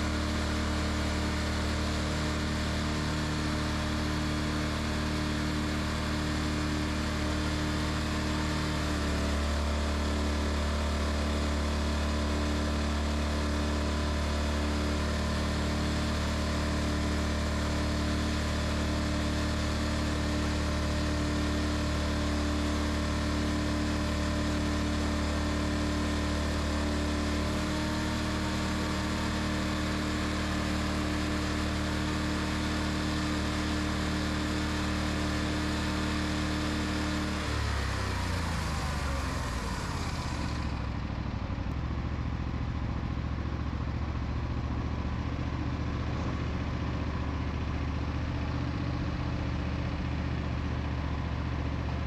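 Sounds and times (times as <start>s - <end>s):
sawmill engine running: 0.0s - 52.0s.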